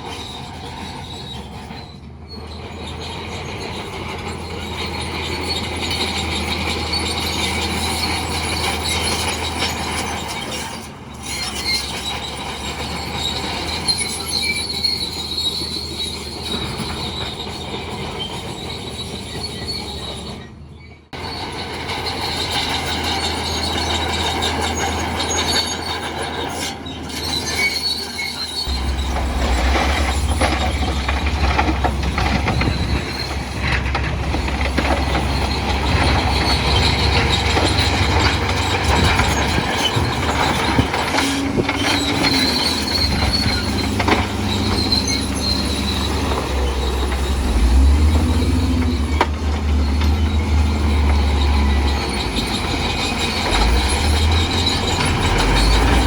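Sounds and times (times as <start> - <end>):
bulldozer engine running: 0.0 - 56.0
steel tracks squealing and clattering: 0.0 - 56.0.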